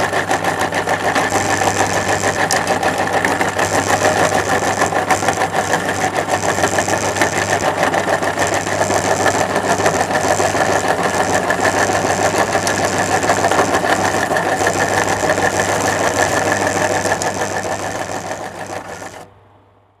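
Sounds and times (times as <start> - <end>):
meat grinder motor hum: 0.0 - 19.3.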